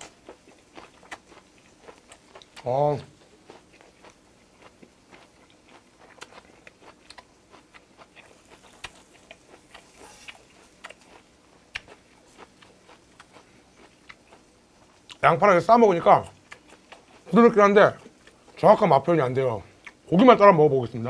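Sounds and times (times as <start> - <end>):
person chewing food: 0.0 - 15.2, 16.1 - 18.6, 19.6 - 20.1.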